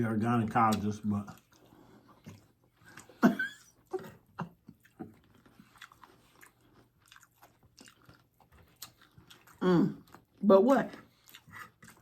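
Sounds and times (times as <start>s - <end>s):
close chewing and crunching: 0.0s - 12.0s.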